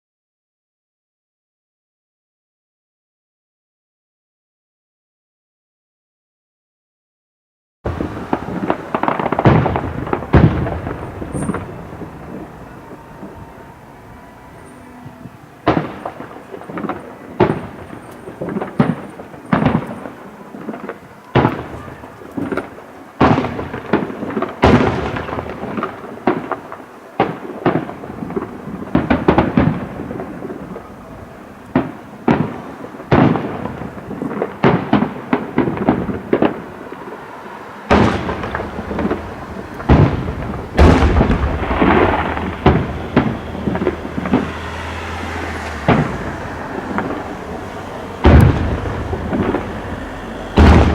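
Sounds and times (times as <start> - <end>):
fireworks bursting with echo: 7.9 - 50.9.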